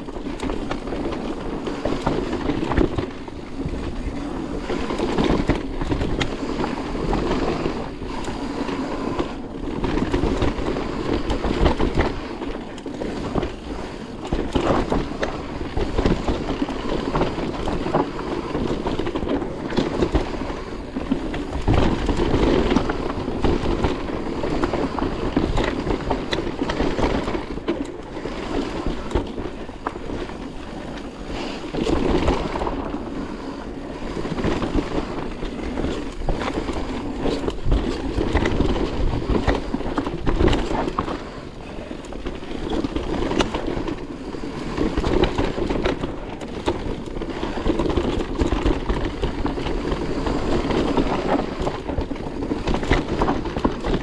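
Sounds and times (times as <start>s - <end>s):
bike rattling and knocking: 0.0s - 54.0s
bike tyres rolling and skidding on dirt: 0.0s - 54.0s
wind on microphone: 0.0s - 54.0s.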